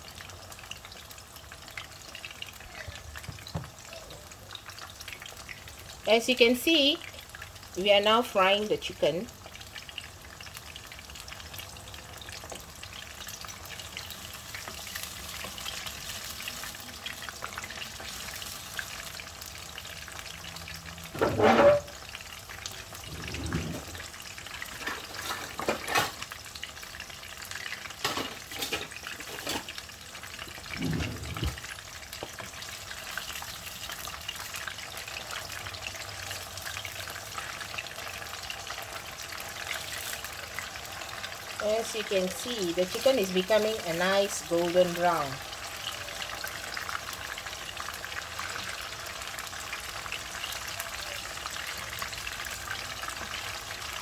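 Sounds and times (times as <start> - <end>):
chicken deep-frying in oil: 0.0 - 54.0.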